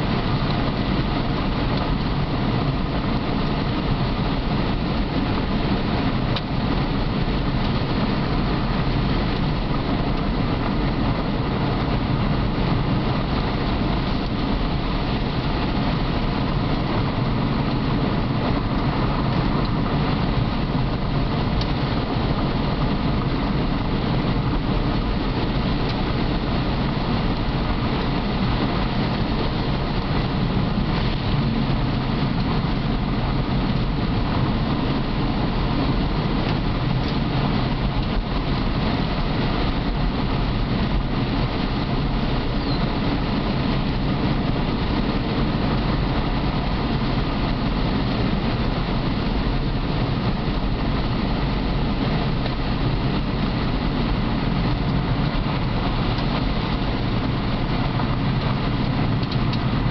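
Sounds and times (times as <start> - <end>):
car engine hum: 0.0 - 59.9.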